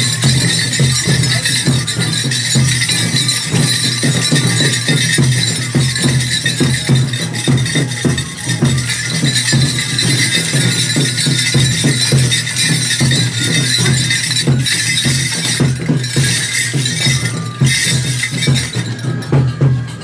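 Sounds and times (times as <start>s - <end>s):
drum beat: 0.0s - 20.0s
flute tones: 0.0s - 20.0s
hand cymbals: 0.0s - 20.0s
metallic clinking and jingling: 0.0s - 20.0s.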